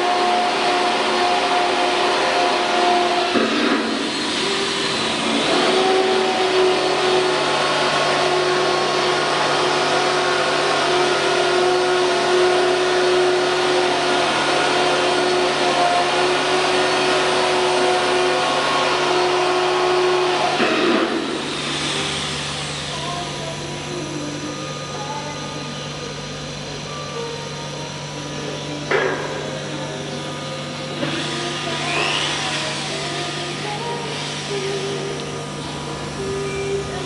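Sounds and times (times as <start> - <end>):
electric motor whirring: 0.0 - 37.0.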